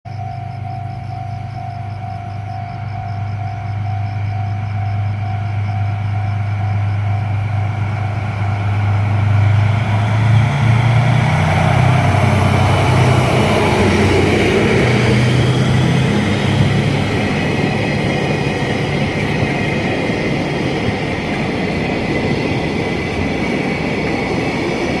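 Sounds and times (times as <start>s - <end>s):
diesel engine drone: 0.1s - 25.0s
train wheel and rail noise: 0.1s - 25.0s.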